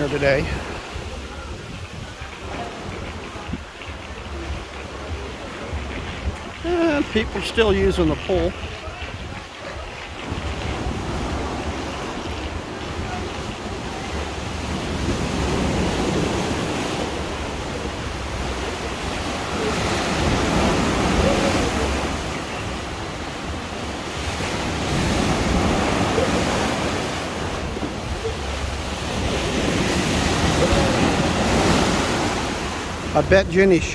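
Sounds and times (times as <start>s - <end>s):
waves crashing: 0.0s - 33.9s
wind buffeting microphone: 0.0s - 33.9s.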